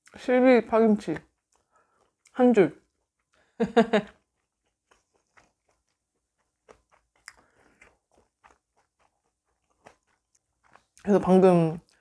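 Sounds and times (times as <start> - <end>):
faint chewing crunches: 0.0 - 12.0
wet mouth clicks: 1.2 - 11.1.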